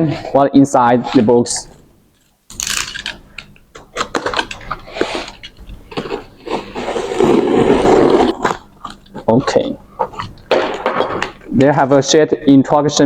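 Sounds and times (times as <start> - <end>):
rustling packing: 1.7 - 12.5.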